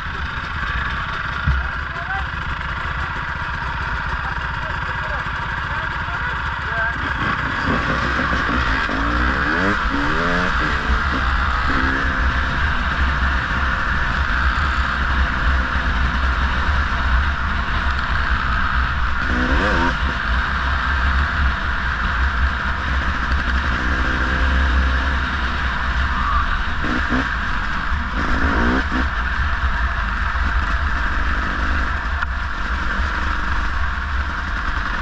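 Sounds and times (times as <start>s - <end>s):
dirt bike engine revving: 0.0s - 35.0s
rush of riding noise: 0.0s - 35.0s.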